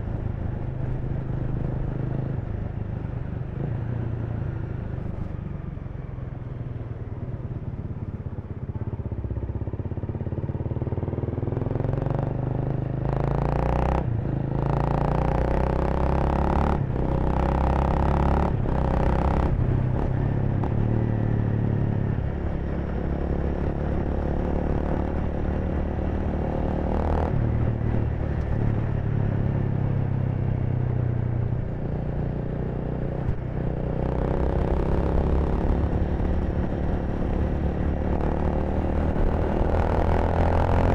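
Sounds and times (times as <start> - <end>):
motorcycle engine running: 0.0 - 40.9
passing street traffic: 0.0 - 40.9.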